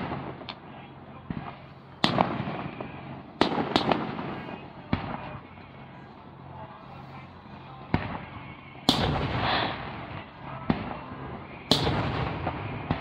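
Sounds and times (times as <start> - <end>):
firework shells bursting with echo: 0.0 - 5.7, 7.7 - 13.0.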